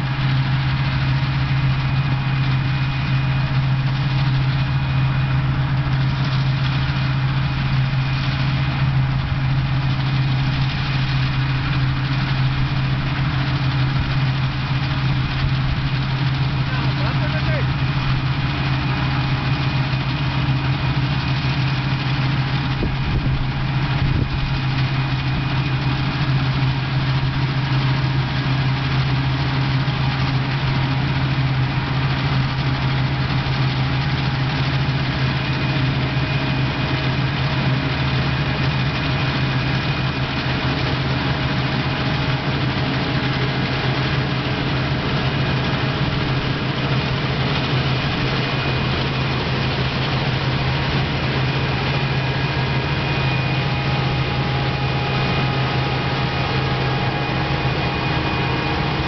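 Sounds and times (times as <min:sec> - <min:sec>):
combine harvester drone: 0:00.0 - 0:59.0.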